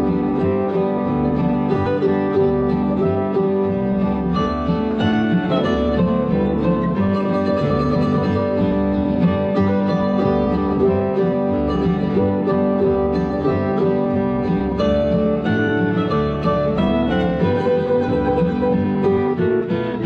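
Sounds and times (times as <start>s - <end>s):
plucked string instrumental music: 0.0s - 20.0s.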